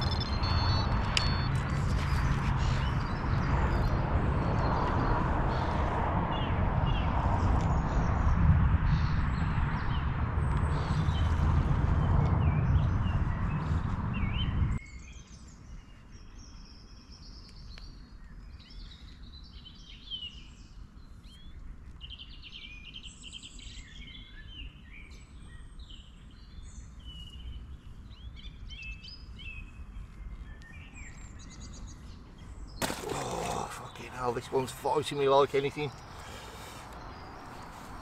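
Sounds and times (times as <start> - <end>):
songbirds singing: 0.0 - 38.0.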